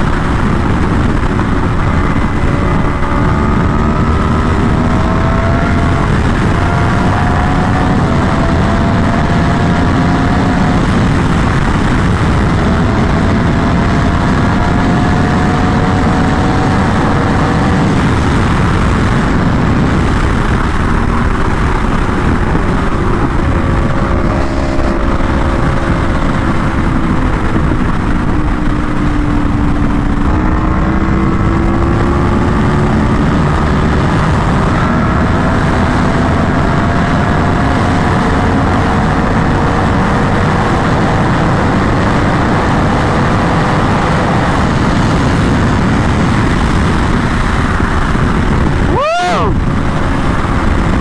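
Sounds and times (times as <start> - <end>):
motorcycle engine cruising: 0.0 - 51.0
wind rushing: 0.0 - 51.0.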